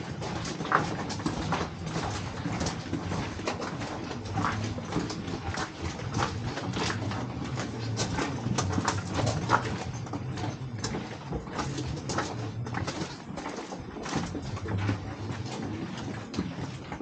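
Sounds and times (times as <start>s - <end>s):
footsteps of people walking: 0.0s - 17.0s
steady low hum: 0.0s - 17.0s.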